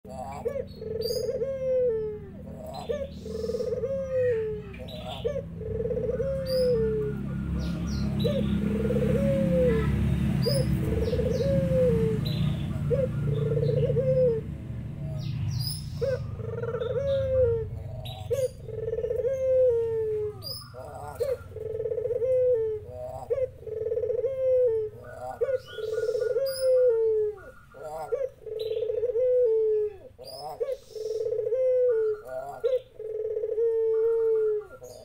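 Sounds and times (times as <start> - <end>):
dove cooing: 0.1 - 35.0
doves with higher falling calls: 0.1 - 35.0
small birds chirping: 0.1 - 35.0.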